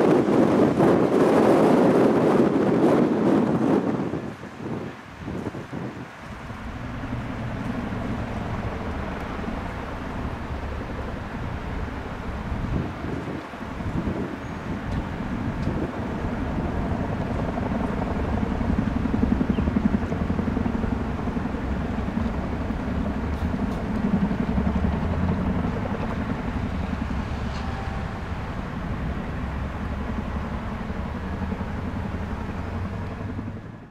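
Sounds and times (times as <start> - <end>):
aircraft engine drone pulsing: 0.0 - 33.9.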